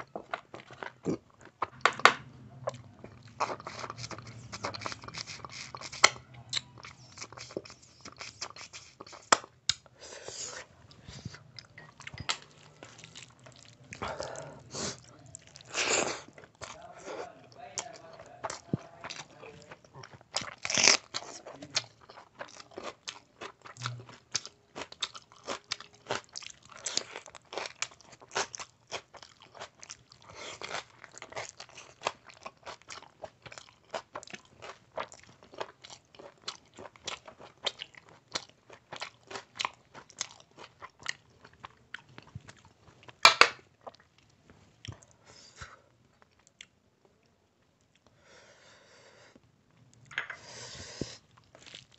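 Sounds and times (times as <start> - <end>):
person chewing food: 0.0 - 48.4, 49.2 - 51.9.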